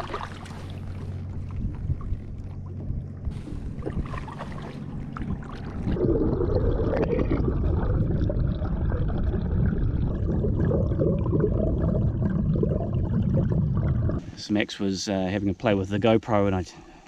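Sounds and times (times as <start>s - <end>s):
muffled underwater rushing water: 0.0s - 14.6s.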